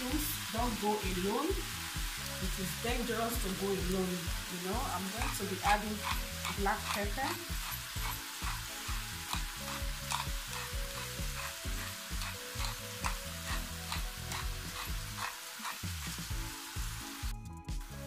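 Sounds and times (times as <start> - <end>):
mushrooms sizzling in oil: 0.0 - 18.0.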